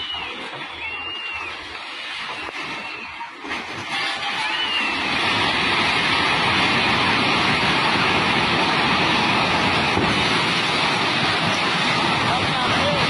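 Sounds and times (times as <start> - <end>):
river in flood rushing: 0.0 - 13.0.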